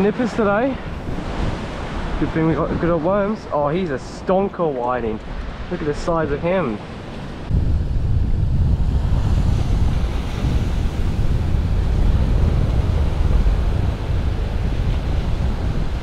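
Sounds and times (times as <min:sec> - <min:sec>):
wind buffeting microphone: 0:00.0 - 0:16.0
small waves breaking on sand: 0:00.4 - 0:03.6, 0:05.0 - 0:16.0.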